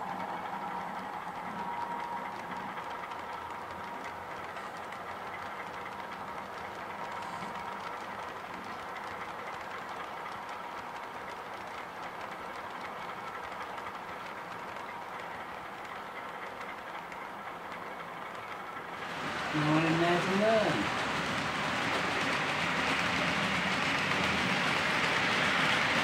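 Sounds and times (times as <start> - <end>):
model train humming: 0.0 - 26.0
wheels clicking on track: 0.0 - 26.0.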